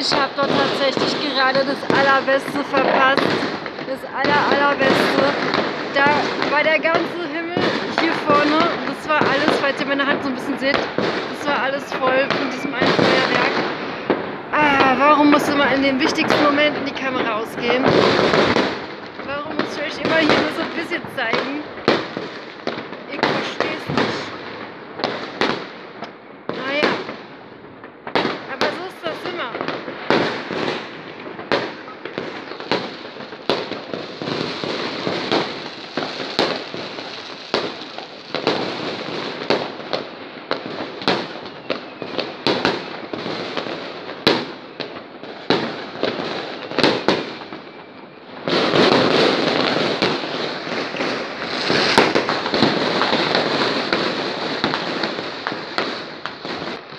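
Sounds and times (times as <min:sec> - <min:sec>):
fireworks bangs and pops: 0:00.0 - 0:56.9.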